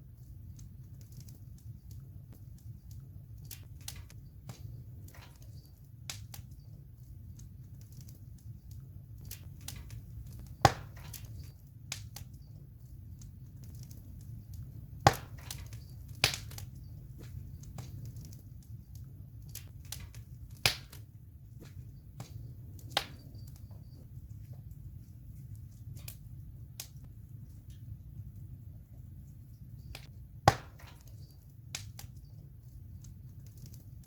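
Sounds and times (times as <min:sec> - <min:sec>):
sharp fire pops: 0:00.0 - 0:24.8, 0:25.4 - 0:28.5, 0:29.8 - 0:34.0
campfire flame rushing: 0:00.0 - 0:34.0
fire crackling: 0:00.0 - 0:34.0.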